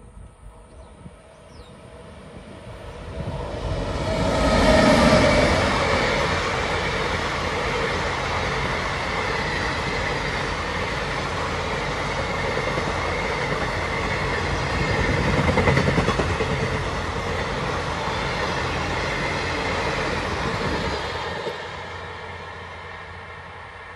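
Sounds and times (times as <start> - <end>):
train wheels rumbling on rails: 0.6 - 23.9.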